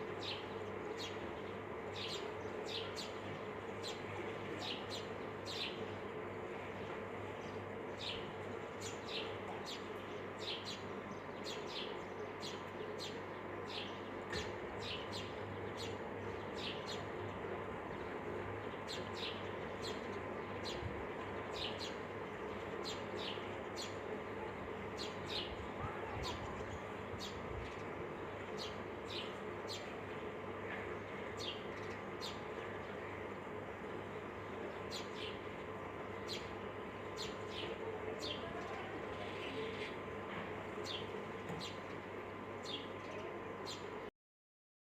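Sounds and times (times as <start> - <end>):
small birds chirping: 0.0 - 44.1
steady low hum: 0.0 - 44.1.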